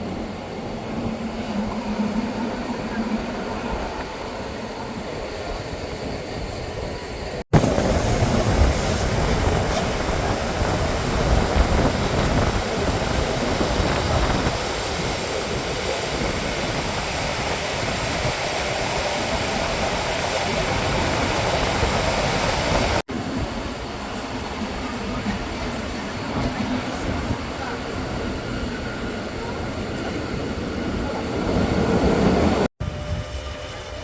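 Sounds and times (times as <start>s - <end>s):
train running on rails: 0.0s - 34.0s.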